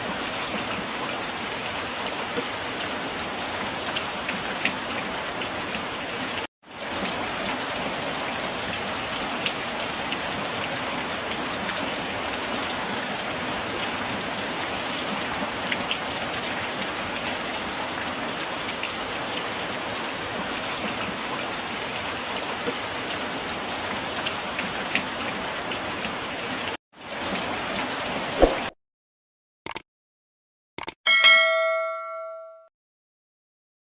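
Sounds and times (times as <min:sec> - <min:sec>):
steady rain falling: 0:00.0 - 0:28.7.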